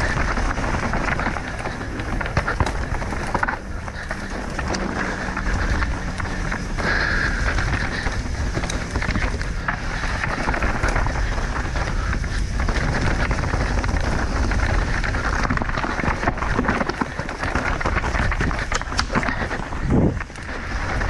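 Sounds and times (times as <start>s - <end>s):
bike rattles and clicks: 0.0s - 21.0s
bike tyres rolling over dirt: 0.0s - 21.0s.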